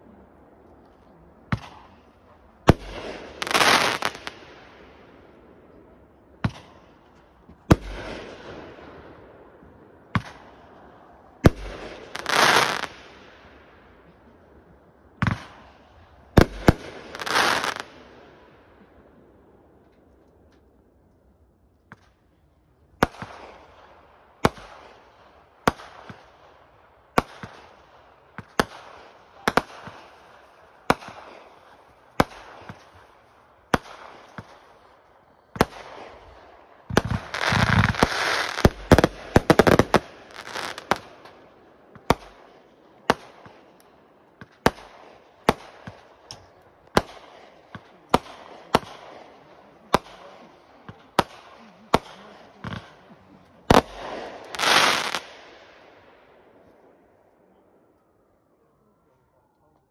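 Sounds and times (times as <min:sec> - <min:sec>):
fireworks bangs and crackle: 0:01.4 - 0:05.5, 0:06.3 - 0:19.0, 0:23.0 - 0:55.8.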